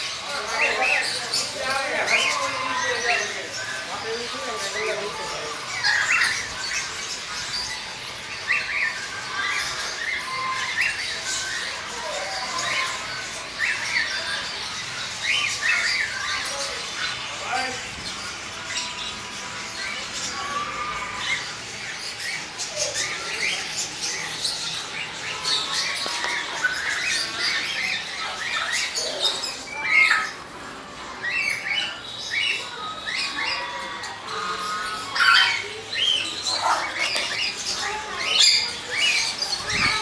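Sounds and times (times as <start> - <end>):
parrots chattering and squawking: 0.0 - 40.0.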